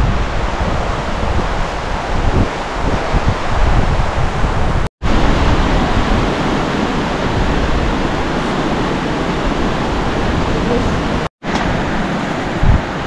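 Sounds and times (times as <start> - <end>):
fast-flowing stream rushing: 0.0 - 13.0
wind buffeting microphone: 0.0 - 13.0.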